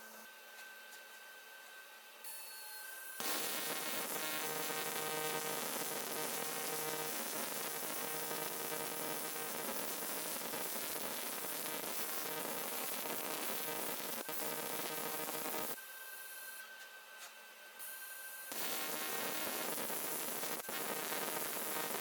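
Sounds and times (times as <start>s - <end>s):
welding arc buzzing hiss: 2.3s - 16.6s, 17.8s - 22.0s.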